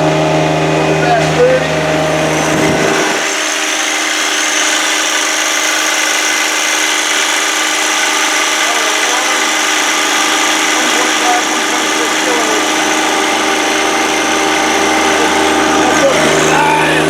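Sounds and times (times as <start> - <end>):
diesel tractor with snowblower running: 0.0 - 17.0
low hum: 0.0 - 17.0.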